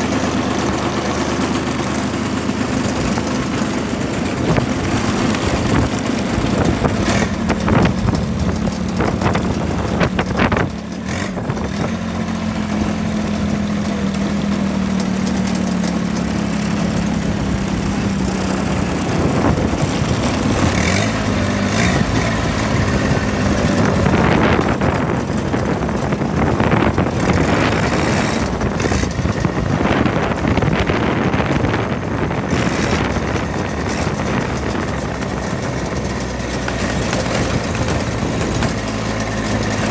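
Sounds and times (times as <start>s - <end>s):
lawn mower diesel engine running: 0.0s - 39.9s
rattles: 0.0s - 39.9s.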